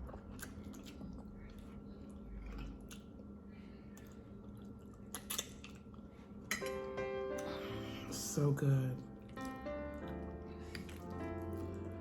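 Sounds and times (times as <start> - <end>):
person chewing food: 0.0 - 8.1, 9.0 - 12.0.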